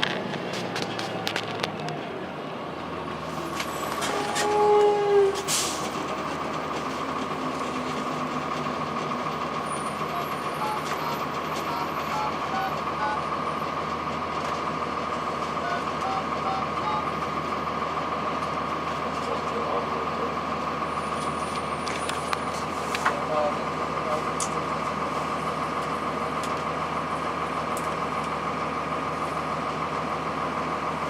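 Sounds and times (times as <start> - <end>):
bus diesel engine drone: 0.0 - 31.0.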